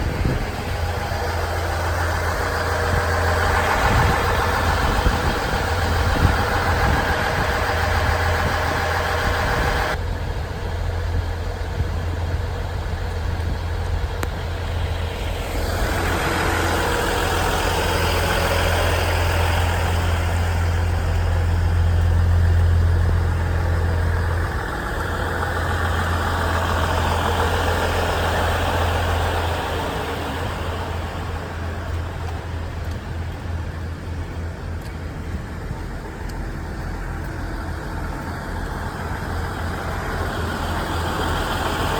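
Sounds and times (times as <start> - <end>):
diesel railcar engine humming: 0.0 - 41.9.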